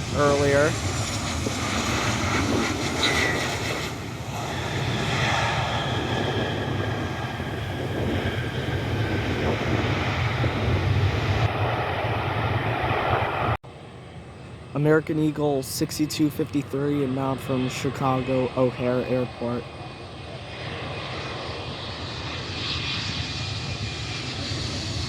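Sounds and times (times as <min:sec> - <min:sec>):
jet airliner engines roaring: 0:00.0 - 0:25.0.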